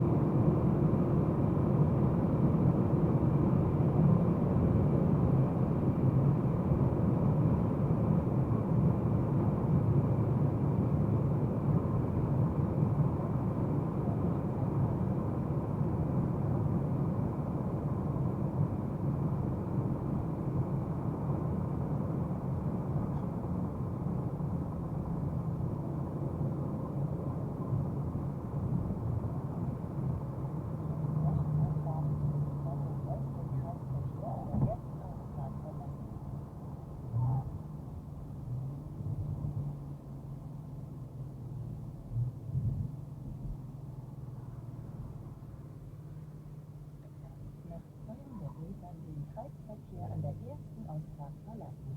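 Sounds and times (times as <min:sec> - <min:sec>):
car engine running: 0:00.0 - 0:51.9
road noise: 0:00.0 - 0:51.9.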